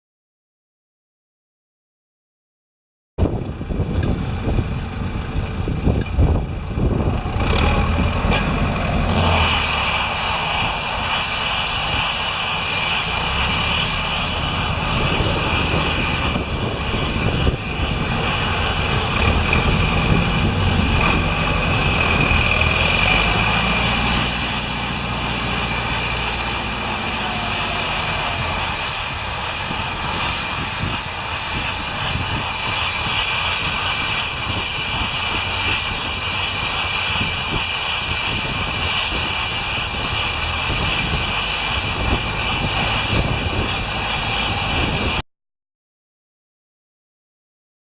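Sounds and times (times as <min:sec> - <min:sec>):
tractor engine running: 0:03.2 - 0:45.2.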